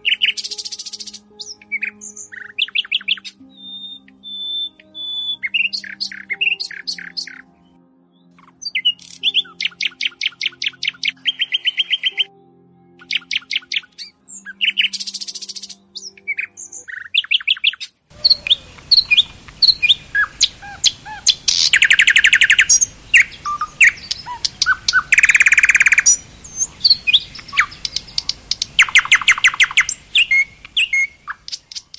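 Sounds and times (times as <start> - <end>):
songbirds trilling: 0.0 - 7.8, 8.4 - 12.4, 13.0 - 31.9
soft music tones: 0.0 - 31.8.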